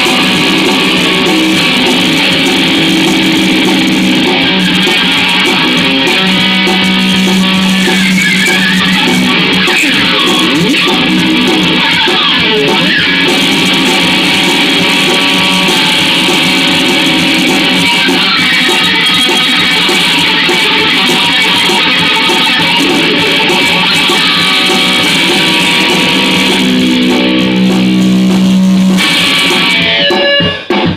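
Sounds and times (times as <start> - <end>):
instrumental rock music: 0.0 - 30.9.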